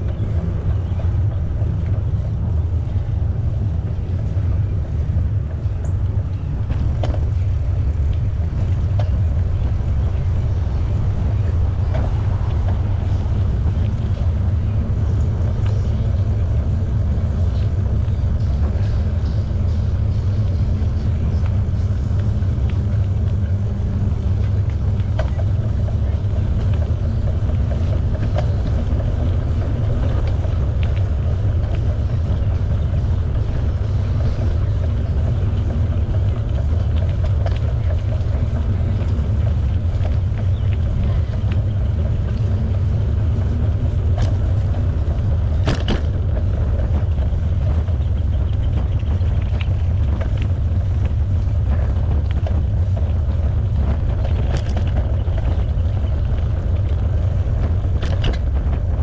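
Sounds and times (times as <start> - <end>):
bicycle tyre noise: 0.0 - 59.0
wind on microphone: 0.0 - 59.0.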